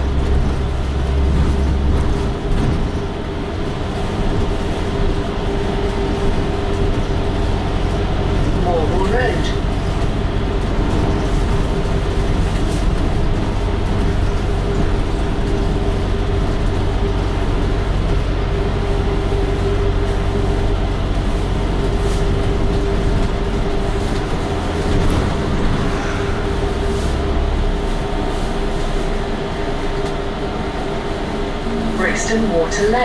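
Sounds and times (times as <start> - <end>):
bus engine and road rumble: 0.0 - 33.0
constant hum: 0.0 - 33.0.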